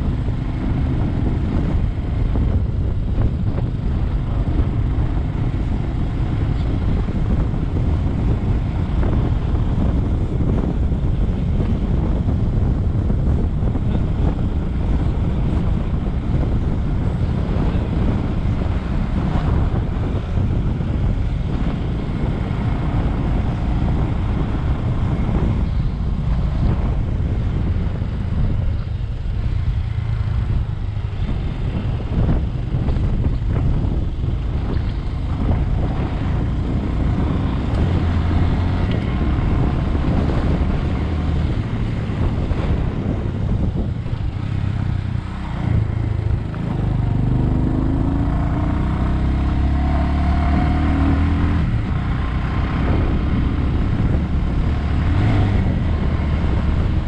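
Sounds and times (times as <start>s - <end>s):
motorcycle engine: 0.0s - 57.0s
wind rushing over microphone: 0.0s - 57.0s.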